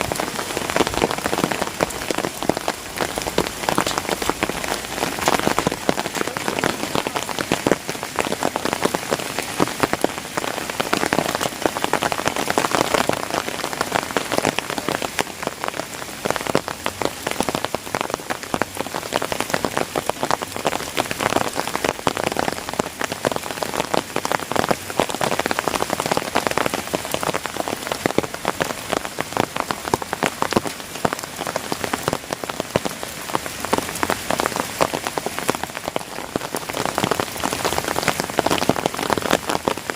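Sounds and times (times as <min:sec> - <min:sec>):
close raindrop impacts: 0:00.0 - 0:39.9
heavy rain falling: 0:00.0 - 0:39.9.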